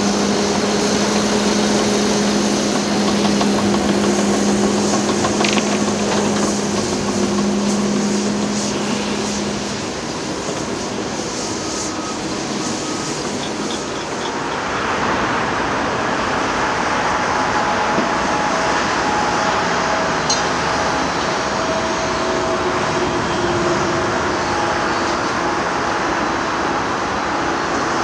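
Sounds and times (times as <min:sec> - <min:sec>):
diesel construction machinery running: 0:00.0 - 0:28.0
heavy traffic hiss: 0:00.0 - 0:28.0.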